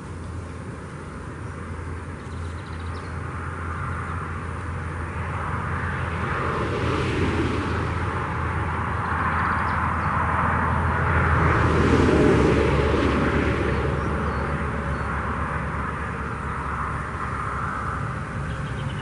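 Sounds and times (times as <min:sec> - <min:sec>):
constant low hum: 0:00.0 - 0:19.0
rumble of road traffic: 0:00.0 - 0:19.0
vehicle approaching: 0:00.0 - 0:19.0.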